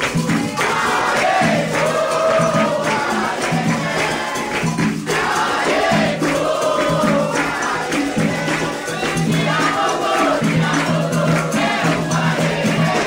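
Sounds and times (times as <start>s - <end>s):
group singing a chant: 0.0s - 13.0s
shaken rattles: 0.0s - 13.0s
steady percussion: 0.0s - 13.0s.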